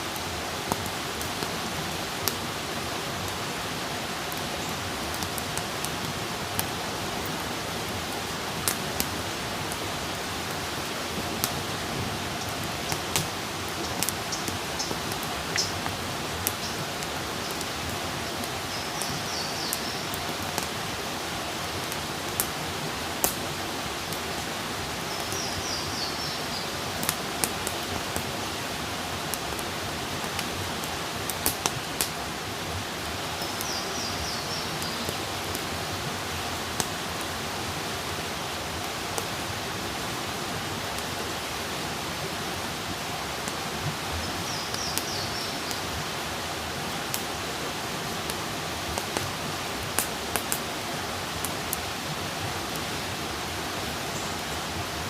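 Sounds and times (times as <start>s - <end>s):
fire crackles and pops: 0.0s - 54.0s
campfire hissing: 0.0s - 55.0s.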